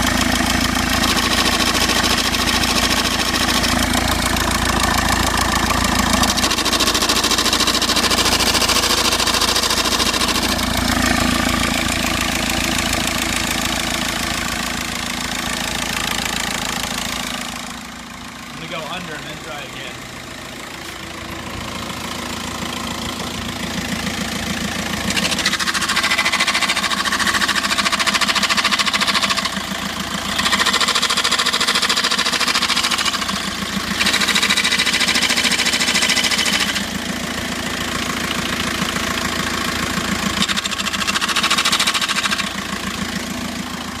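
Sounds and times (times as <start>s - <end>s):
clutch rattling and grinding: 0.0s - 19.7s, 20.7s - 44.0s
diesel engine knocking: 0.0s - 44.0s.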